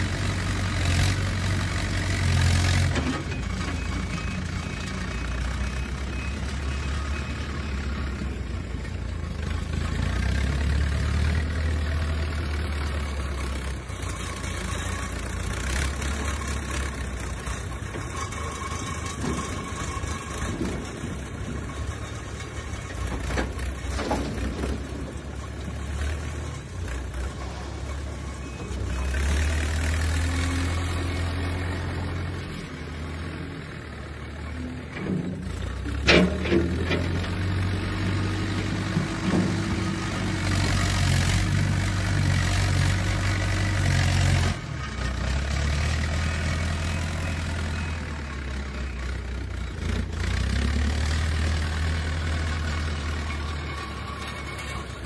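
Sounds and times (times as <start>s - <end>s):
backhoe diesel engine under load: 0.0s - 55.0s.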